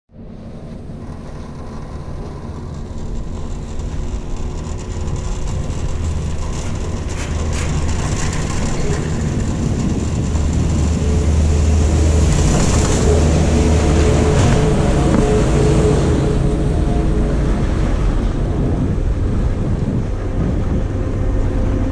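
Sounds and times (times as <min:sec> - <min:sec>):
chairlift rumble: 0:00.2 - 0:21.9.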